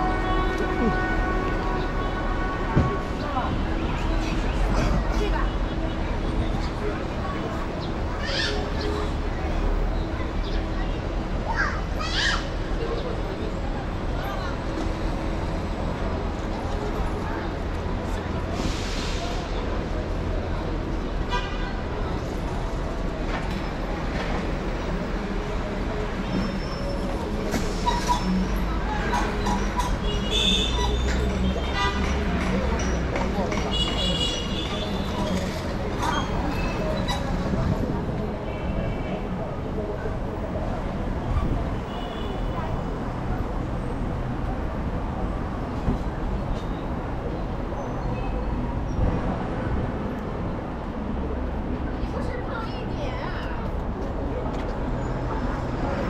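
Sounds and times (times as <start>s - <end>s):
road traffic rumble: 0.0s - 56.0s
street noise: 0.0s - 56.0s.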